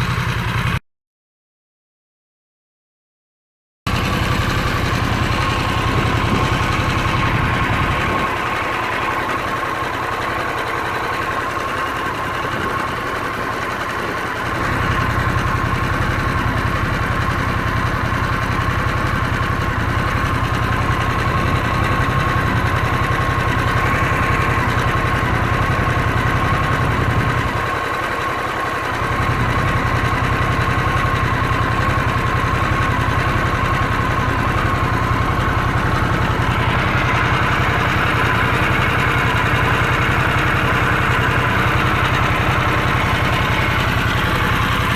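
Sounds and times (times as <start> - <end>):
motorcycle engine idling: 0.0 - 0.8, 3.9 - 44.9.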